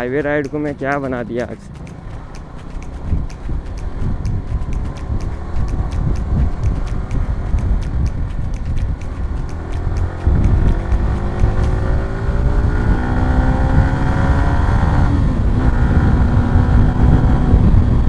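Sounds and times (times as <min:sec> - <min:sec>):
motorcycle accelerating hard: 0:00.0 - 0:18.0
wind buffeting on microphone: 0:01.6 - 0:18.0.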